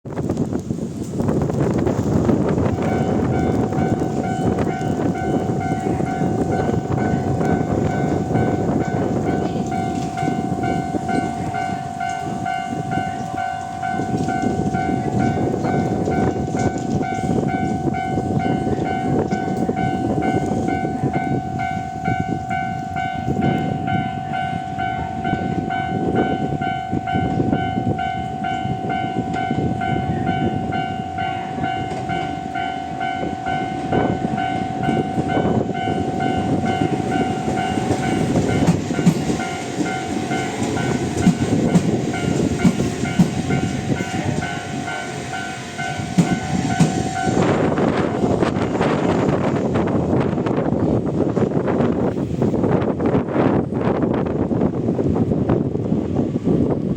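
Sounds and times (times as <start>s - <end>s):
wind buffeting microphone: 0.0s - 56.9s
level-crossing warning bell: 2.0s - 54.4s.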